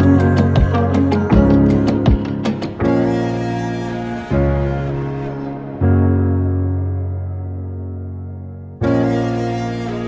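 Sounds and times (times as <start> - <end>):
slow background music chords: 0.0 - 10.0.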